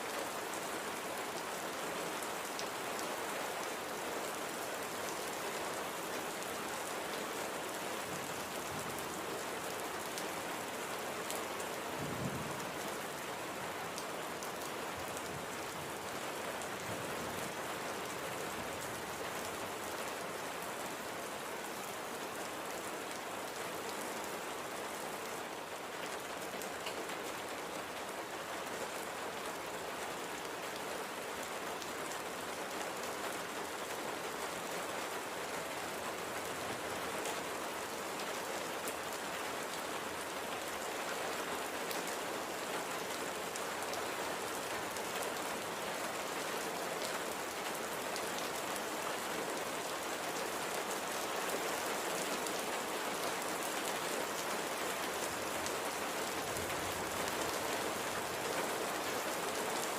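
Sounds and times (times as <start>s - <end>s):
light rain on a surface: 0.0s - 59.9s.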